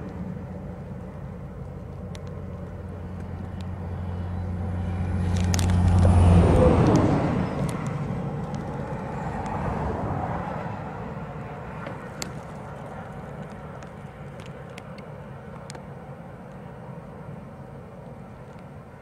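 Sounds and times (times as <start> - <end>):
road vehicle passing: 0.0 - 19.0.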